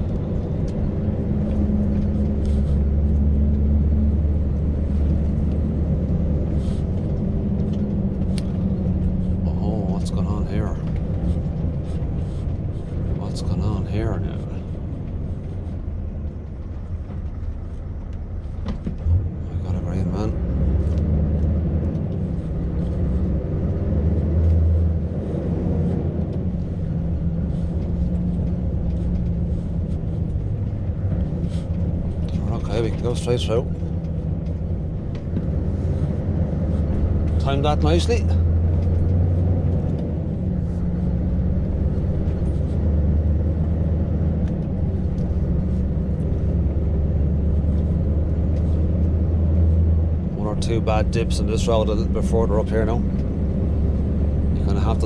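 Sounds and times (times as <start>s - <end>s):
road noise: 0.0s - 55.0s
truck engine running: 0.0s - 55.0s.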